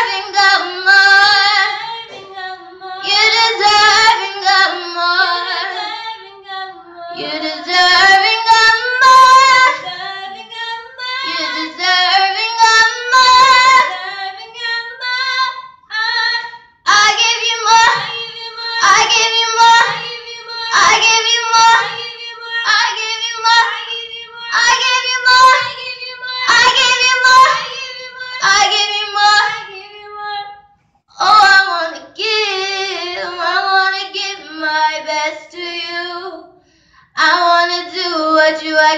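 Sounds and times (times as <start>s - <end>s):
girls singing into a microphone: 0.0s - 36.6s, 37.2s - 38.9s.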